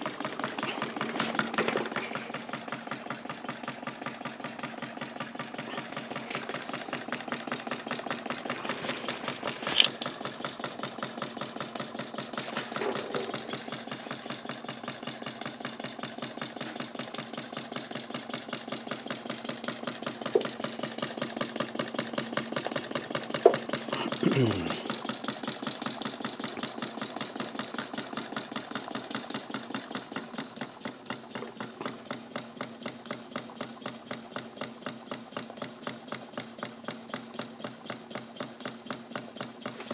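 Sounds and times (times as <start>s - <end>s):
model steam engine chuffing: 0.0s - 39.9s.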